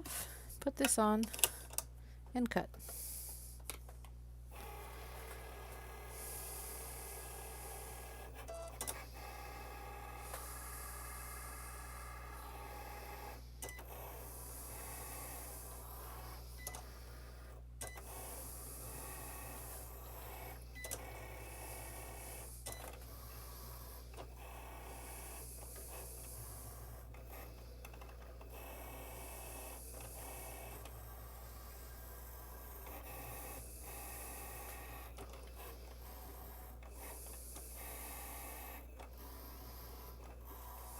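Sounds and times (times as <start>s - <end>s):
steady low hum: 0.0s - 40.9s
small motors whirring: 4.5s - 40.9s.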